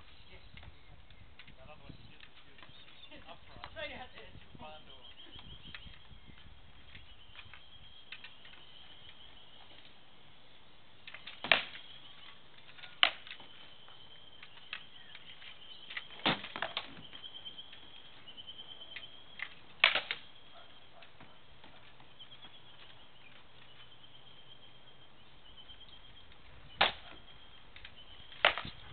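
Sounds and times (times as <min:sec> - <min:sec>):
high steady chirping: 0:02.8 - 0:28.9.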